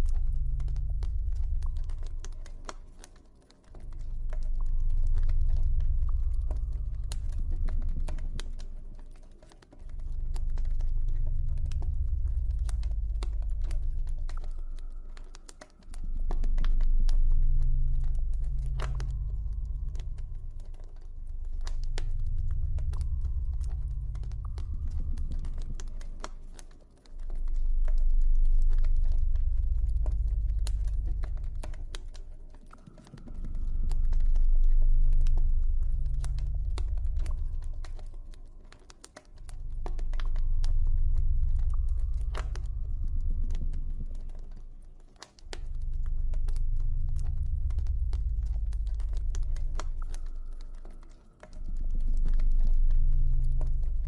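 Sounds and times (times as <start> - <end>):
deep ambient music drone: 0.0 - 54.0
campfire crackling: 9.5 - 54.0.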